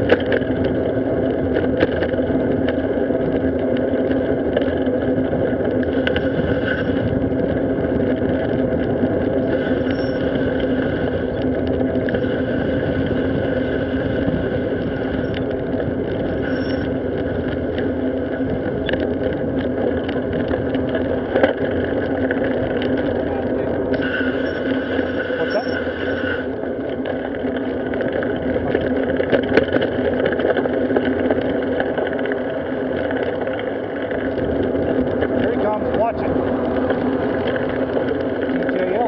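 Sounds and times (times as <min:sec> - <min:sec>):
bicycle road rumble: 0:00.0 - 0:39.0
small clicks and bumps: 0:00.0 - 0:39.0
wind noise: 0:00.0 - 0:39.0.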